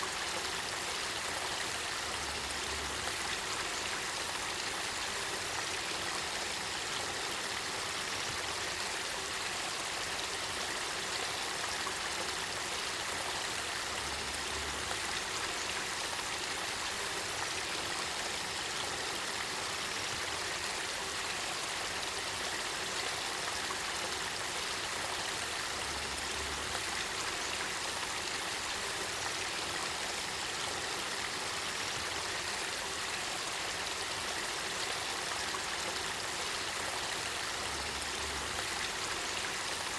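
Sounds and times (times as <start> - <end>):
water flowing and bubbling: 0.0 - 39.9.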